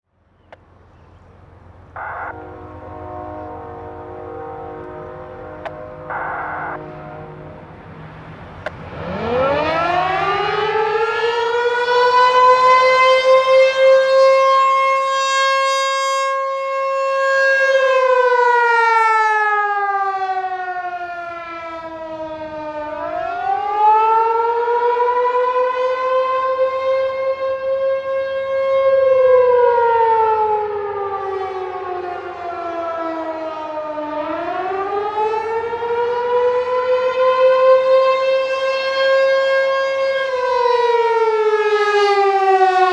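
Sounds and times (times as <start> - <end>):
rotating warning siren wailing: 1.3 - 42.9.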